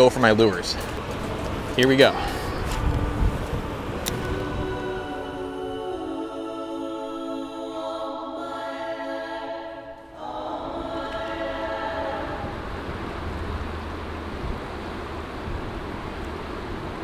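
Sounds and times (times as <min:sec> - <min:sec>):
choir-like background music: 0:00.0 - 0:14.6
steady rushing noise: 0:00.0 - 0:17.0.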